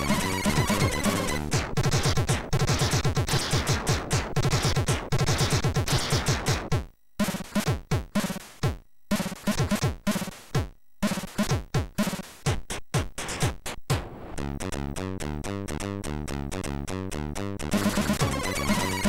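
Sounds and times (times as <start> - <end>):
chiptune music with drum hits: 0.0 - 15.0, 15.6 - 19.0.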